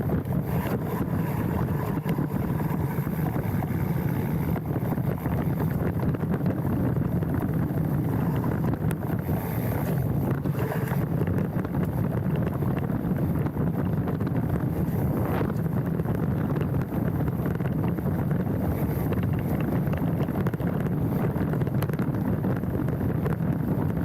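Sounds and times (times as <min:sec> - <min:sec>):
bike tyre noise on dirt: 0:00.0 - 0:24.0
wind rumble on microphone: 0:00.0 - 0:24.0.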